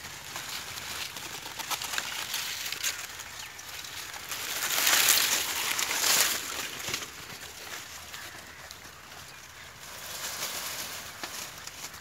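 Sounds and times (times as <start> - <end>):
dry leaves and stalks rustling: 0.0 - 12.0.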